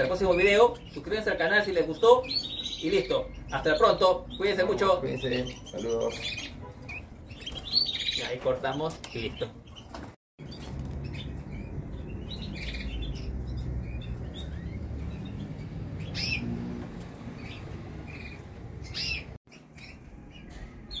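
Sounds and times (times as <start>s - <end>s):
canaries chirping: 0.0s - 21.0s.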